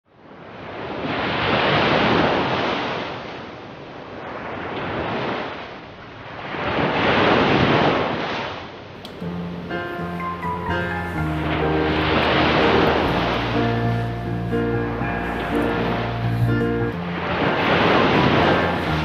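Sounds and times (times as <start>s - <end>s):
ocean waves washing in: 0.1s - 19.0s.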